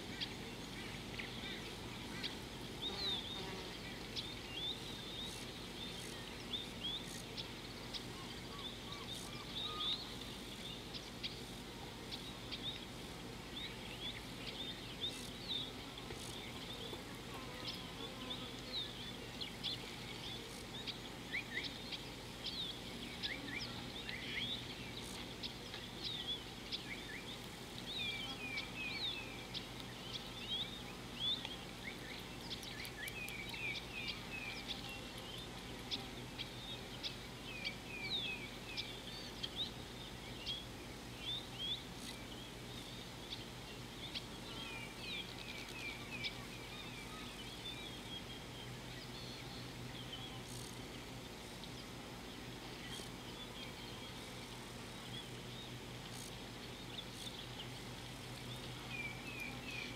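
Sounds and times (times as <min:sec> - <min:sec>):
steady low hum: 0:00.0 - 0:59.9
wild birds chirping: 0:00.0 - 0:59.9.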